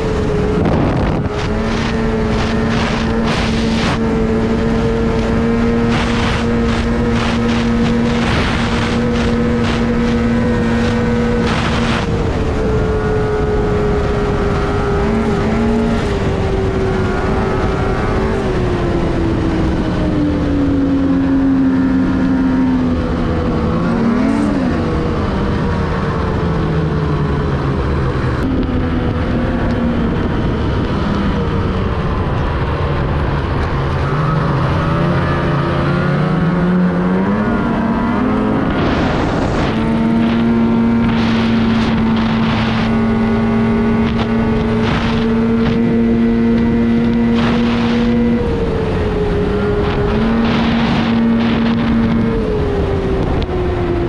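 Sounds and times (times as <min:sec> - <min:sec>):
snowmobile engine running: 0:00.0 - 0:54.0
wind buffeting microphone: 0:00.0 - 0:54.0.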